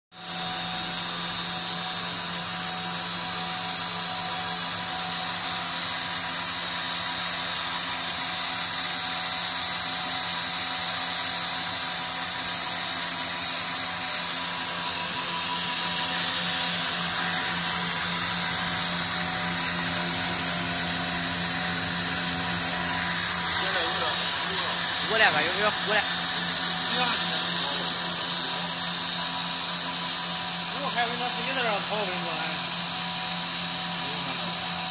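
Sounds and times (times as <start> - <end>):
food extruder motor humming: 0.1 - 34.9.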